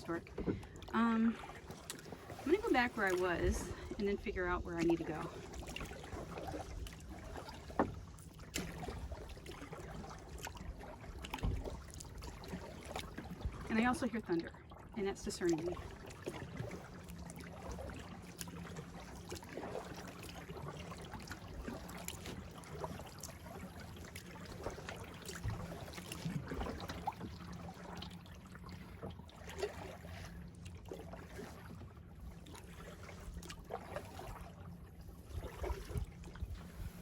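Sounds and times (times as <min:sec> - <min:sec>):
paddle splashing in water: 0:00.0 - 0:37.0
water dripping off paddle: 0:00.2 - 0:31.6.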